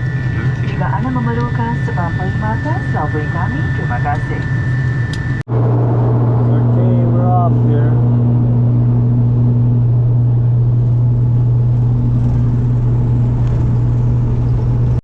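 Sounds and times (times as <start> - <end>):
engine and airflow rush: 0.0 - 15.0
propeller drone: 0.0 - 15.0.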